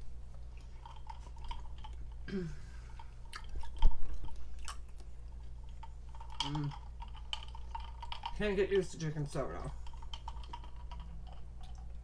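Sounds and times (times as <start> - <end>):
person chewing and swallowing: 0.2 - 8.4, 9.7 - 12.0.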